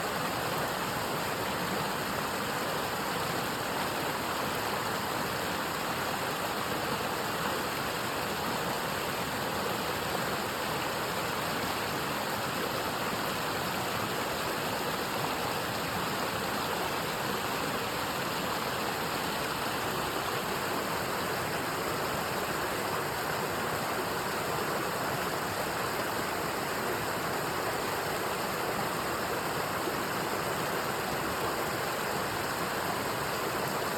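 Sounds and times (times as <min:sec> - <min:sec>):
stream water splashing over rocks: 0:00.0 - 0:33.9.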